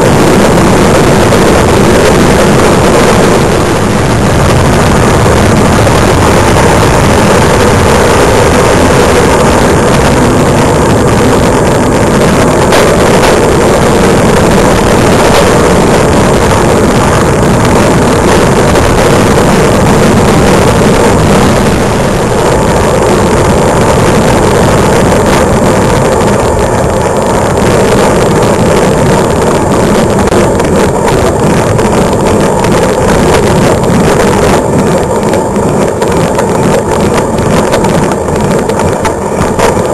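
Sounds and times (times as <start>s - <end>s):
tyre and road rumble: 0.0s - 39.9s
wind buffeting microphone: 0.0s - 39.9s.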